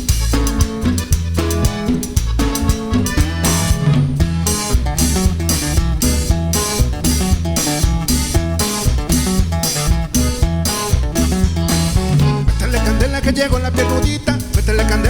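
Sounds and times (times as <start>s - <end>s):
bass guitar: 0.0s - 15.0s
drum kit dance beat: 0.0s - 15.0s
guitar melody: 0.0s - 15.0s.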